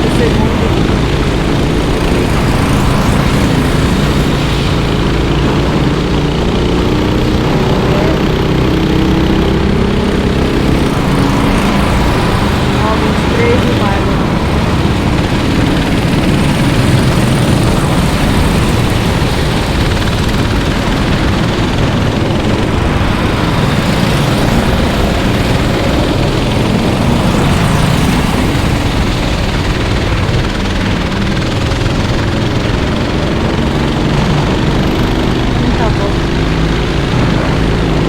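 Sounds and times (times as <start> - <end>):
racing kart engines buzzing: 0.0 - 38.0.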